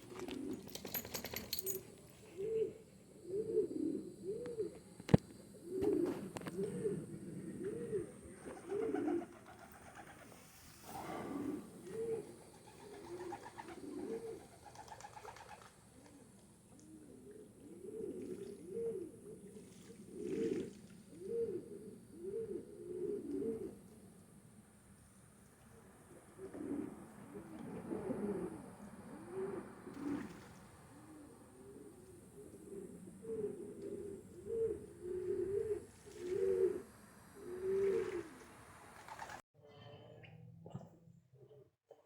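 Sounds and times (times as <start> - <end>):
pigeons cooing: 0.0 - 1.4, 2.3 - 23.8, 26.1 - 38.4.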